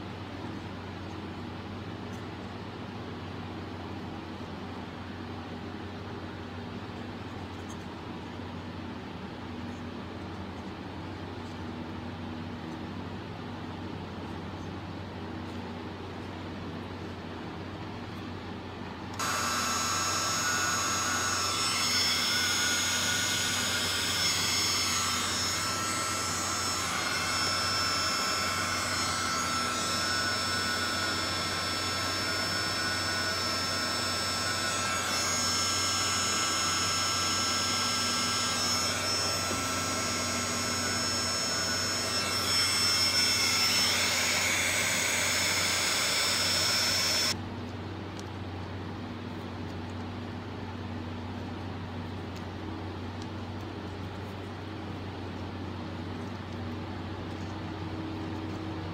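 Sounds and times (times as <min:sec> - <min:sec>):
heat gun fan whining: 0:00.0 - 0:58.9.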